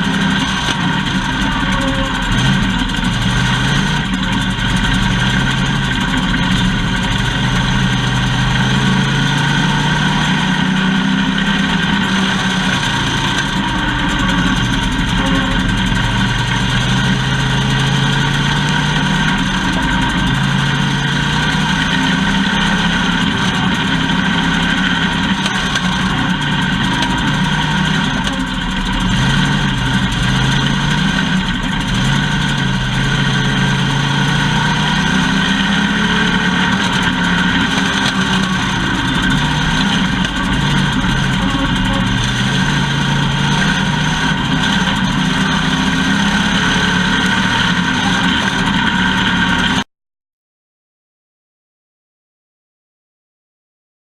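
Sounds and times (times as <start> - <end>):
race car engine revving: 0.0 - 49.8.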